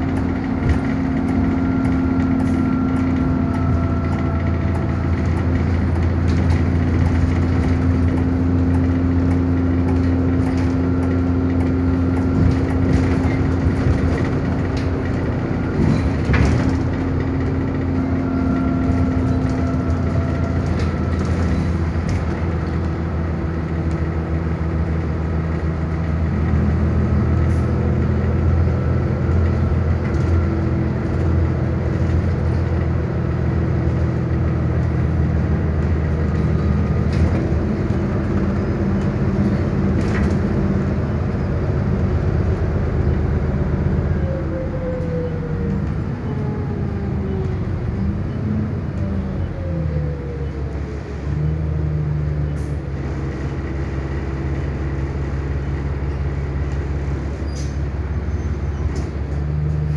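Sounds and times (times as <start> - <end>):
bus engine drone: 0.0 - 59.9
road noise: 0.0 - 59.9.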